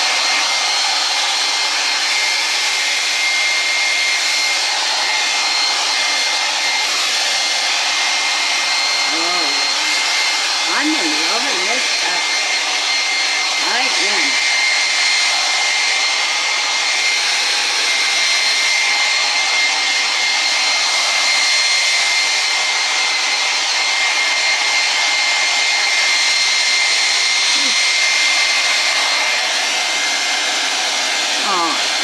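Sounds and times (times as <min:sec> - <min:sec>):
hair dryer running: 0:00.0 - 0:32.0.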